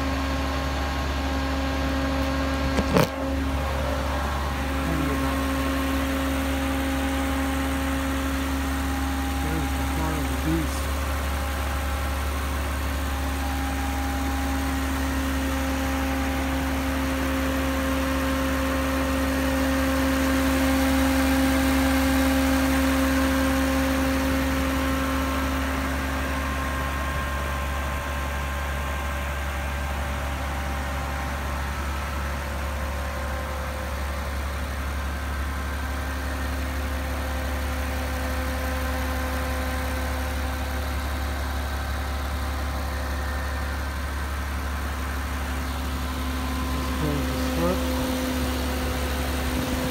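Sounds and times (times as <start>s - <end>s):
car engine idling with whine: 0.0s - 49.9s.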